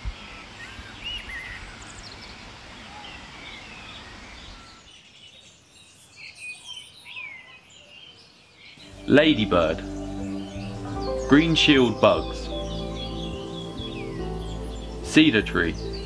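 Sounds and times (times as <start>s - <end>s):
steady outdoor hiss: 0.0s - 5.8s, 8.8s - 16.0s
small birds chirping: 0.2s - 16.0s.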